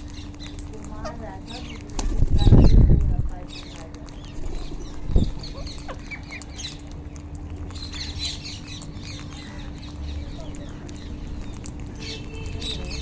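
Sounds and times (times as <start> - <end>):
parakeets chirping: 0.0 - 13.0
steady low hum: 0.0 - 13.0.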